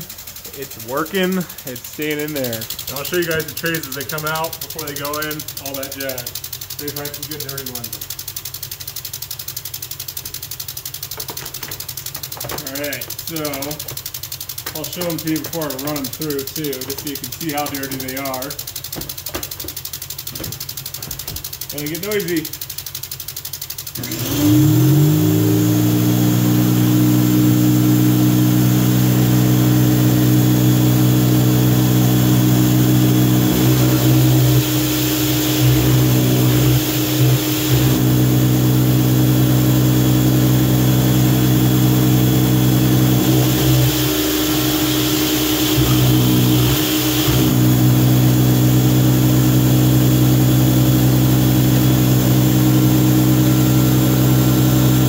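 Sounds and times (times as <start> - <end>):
pressure washer running: 0.0 - 55.0.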